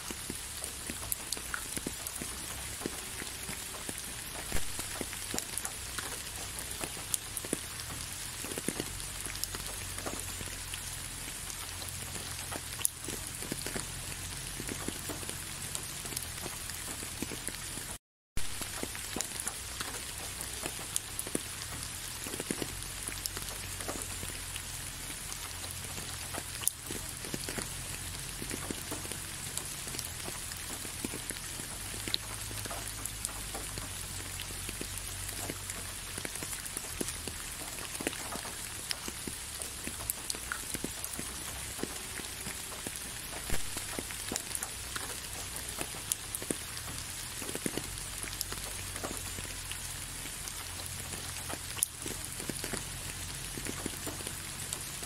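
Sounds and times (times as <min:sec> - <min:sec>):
raindrops ticking: 0:00.0 - 0:55.0
steady rain hiss: 0:00.0 - 0:55.0.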